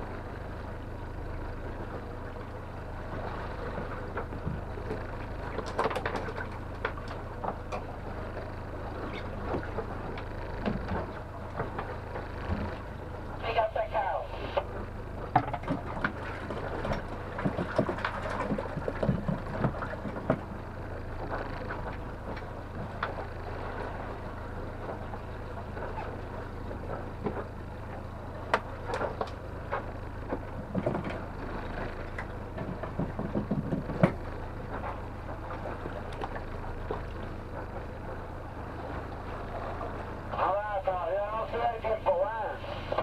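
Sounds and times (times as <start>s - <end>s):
outboard motor running: 0.0s - 43.0s
water and wind noise: 0.0s - 43.0s.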